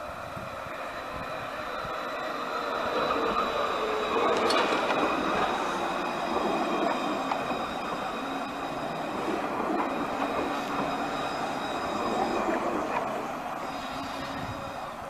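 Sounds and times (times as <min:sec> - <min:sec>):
tram wheels rolling on rails: 0:00.0 - 0:15.0
tram whining tones: 0:00.0 - 0:15.0.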